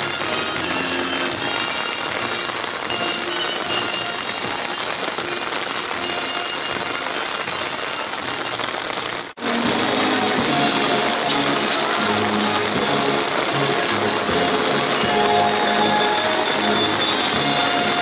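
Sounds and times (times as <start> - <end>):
rain on pavement and umbrellas: 0.0 - 18.0.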